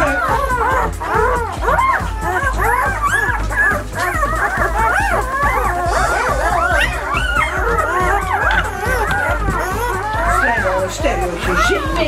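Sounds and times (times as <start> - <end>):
background music: 0.0 - 12.0
puppies squeaking and whimpering: 0.0 - 12.0.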